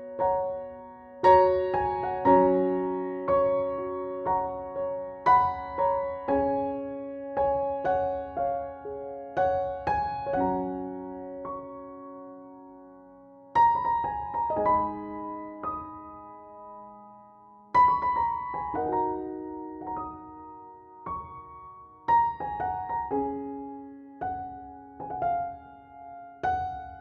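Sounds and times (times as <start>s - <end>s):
slow piano music: 0.0s - 27.0s.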